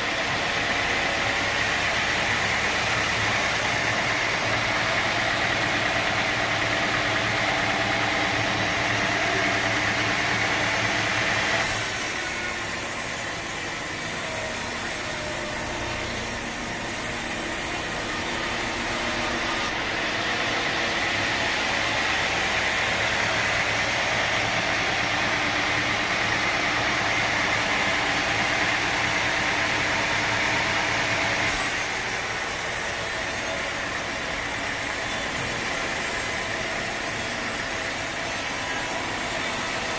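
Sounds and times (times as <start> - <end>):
engine drone: 0.0 - 39.9
saw hissing: 1.1 - 25.5, 31.4 - 39.9.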